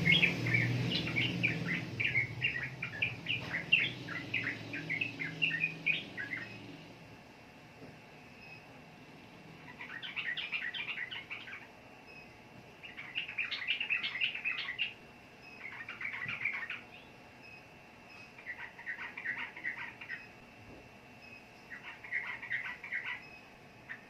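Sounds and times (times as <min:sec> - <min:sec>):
bird chirping song: 0:00.0 - 0:06.8, 0:09.6 - 0:20.4, 0:21.2 - 0:24.0.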